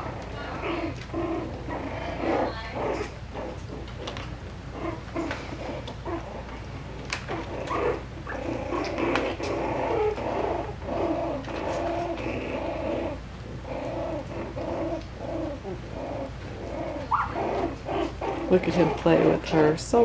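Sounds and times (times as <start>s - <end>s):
puppies growling and grunting: 0.0s - 20.0s.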